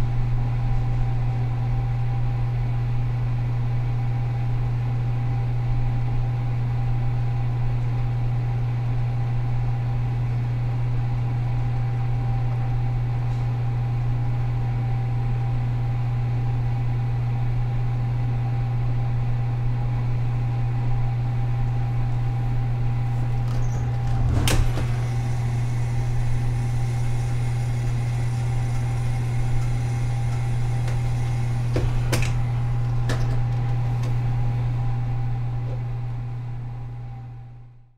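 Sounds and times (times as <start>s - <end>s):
oven humming: 0.0s - 37.9s.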